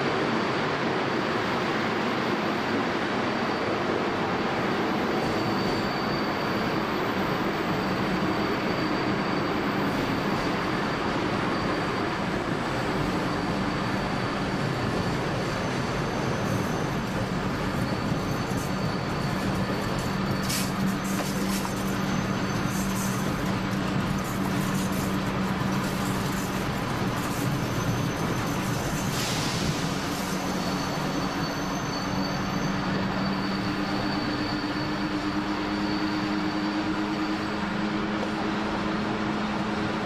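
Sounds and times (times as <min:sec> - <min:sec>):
wheels rumbling on track: 0:00.0 - 0:40.0
high-pitched wheel squeals: 0:04.6 - 0:39.6.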